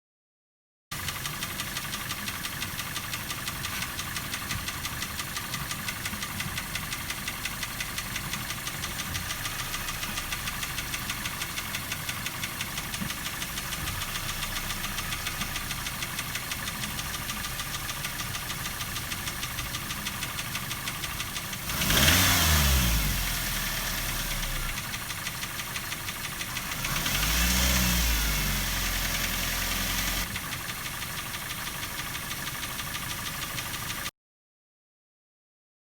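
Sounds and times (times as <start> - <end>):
knocking car engine idling and revving: 0.9 - 34.1.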